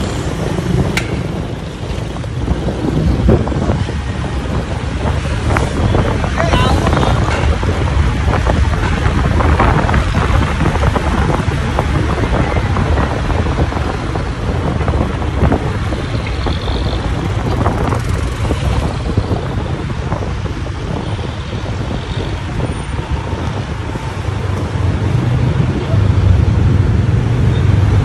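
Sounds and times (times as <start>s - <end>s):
road and traffic noise: 0.0s - 28.0s
wind rushing over microphone: 0.0s - 28.0s.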